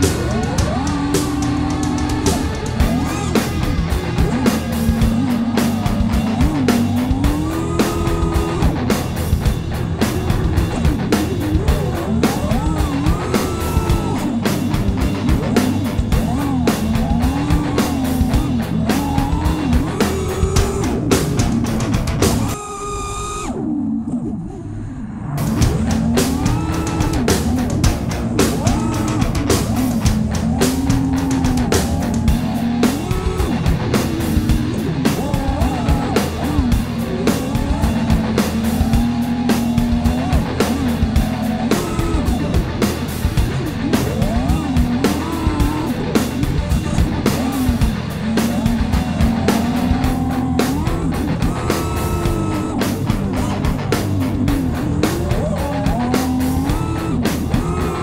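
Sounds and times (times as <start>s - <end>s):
rock music with guitar and drums: 0.0s - 22.6s, 25.4s - 58.0s.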